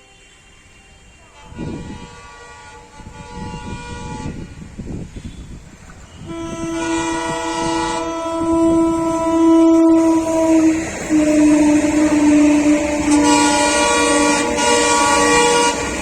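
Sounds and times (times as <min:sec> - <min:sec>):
locomotive air horn: 0:00.0 - 0:05.5, 0:06.1 - 0:16.0
passing train rumble: 0:00.0 - 0:16.0.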